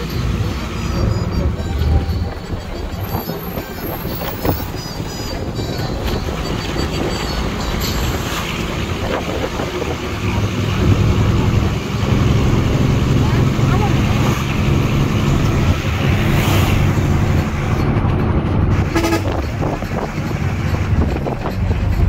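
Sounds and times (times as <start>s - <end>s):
low engine hum: 0.0s - 22.0s
road noise inside moving vehicle: 0.0s - 22.0s.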